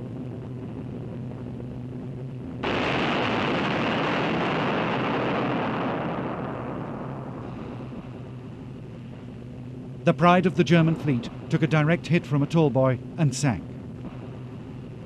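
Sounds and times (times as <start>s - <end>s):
steady low drone: 0.0s - 15.0s
bomb explosion roar: 2.6s - 15.0s.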